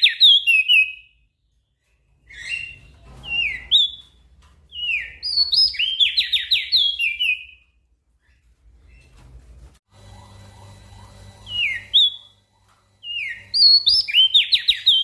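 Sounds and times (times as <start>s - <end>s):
songbird singing: 0.0s - 9.2s, 11.4s - 15.0s.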